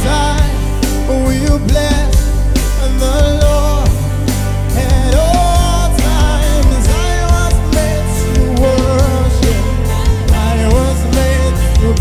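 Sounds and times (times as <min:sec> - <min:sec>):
bass guitar: 0:00.0 - 0:12.0
drum kit: 0:00.0 - 0:12.0
keyboard chords: 0:00.0 - 0:12.0.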